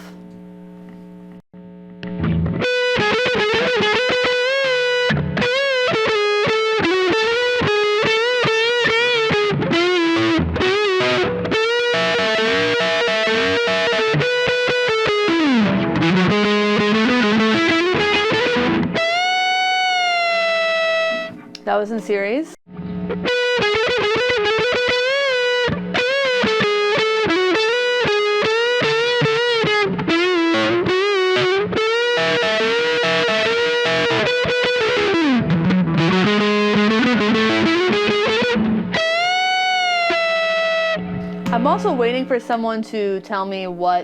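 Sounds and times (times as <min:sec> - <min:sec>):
distorted electric guitar solo: 0:02.0 - 0:21.6, 0:22.7 - 0:43.2.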